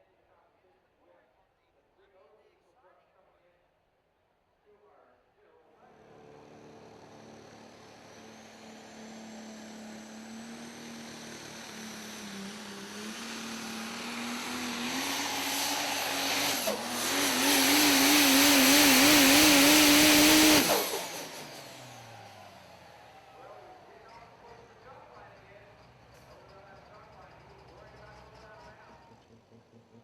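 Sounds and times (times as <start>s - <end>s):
diesel truck engine at full throttle: 5.9s - 30.0s.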